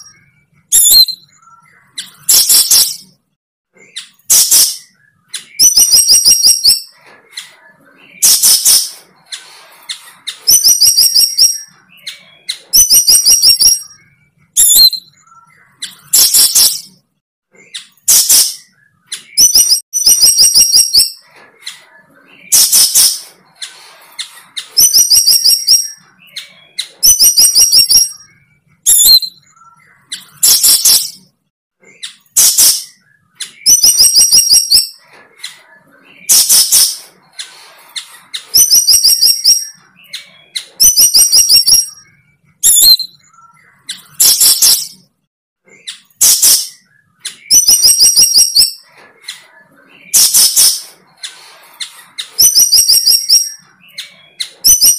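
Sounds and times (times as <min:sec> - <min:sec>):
bird chirping and rasping: 0:00.0 - 0:54.9.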